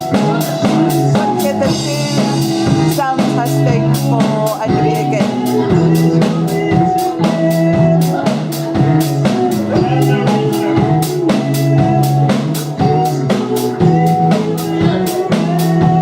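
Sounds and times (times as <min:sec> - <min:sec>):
drum kit beat: 0:00.0 - 0:16.0
guitar or keyboard parts: 0:00.0 - 0:16.0
held bass notes: 0:00.0 - 0:16.0.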